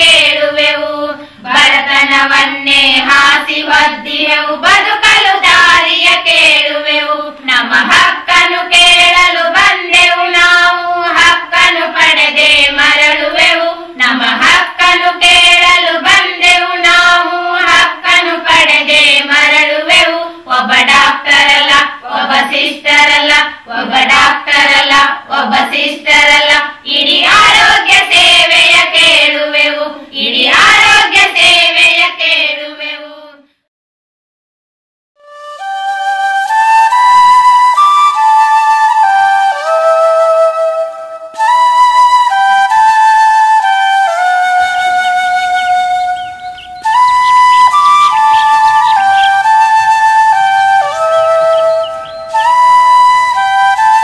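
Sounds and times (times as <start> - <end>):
high voices singing: 0.0 - 33.5, 42.7 - 54.0.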